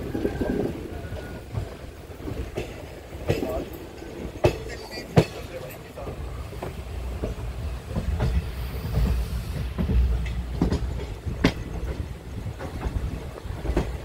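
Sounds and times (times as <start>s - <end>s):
train rumbling on rails: 0.0s - 14.0s
wheels clacking over rail joints: 0.0s - 14.0s.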